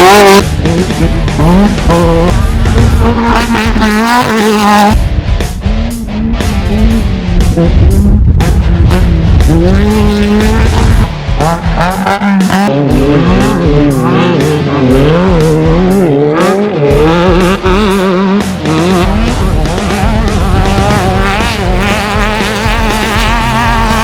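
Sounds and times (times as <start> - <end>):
rock lead melody: 0.0 - 24.0
steady drum beat: 0.0 - 24.0.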